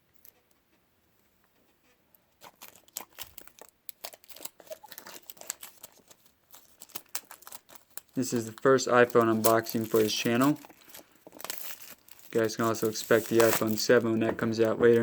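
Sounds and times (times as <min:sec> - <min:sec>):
plastic wrap tearing and crackling: 0:02.4 - 0:15.0.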